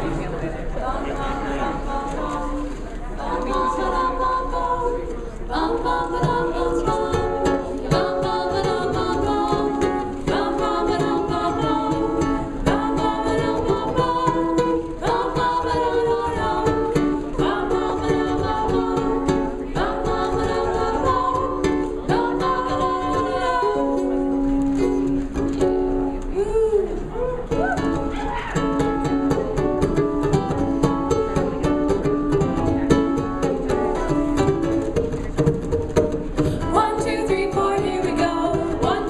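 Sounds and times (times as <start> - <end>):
strummed ukulele: 0.0 - 39.0.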